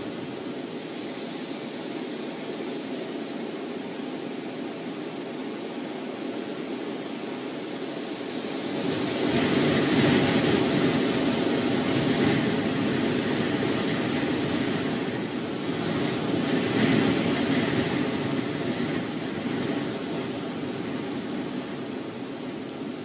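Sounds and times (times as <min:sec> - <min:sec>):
strong wind gusting: 0:00.0 - 0:23.0.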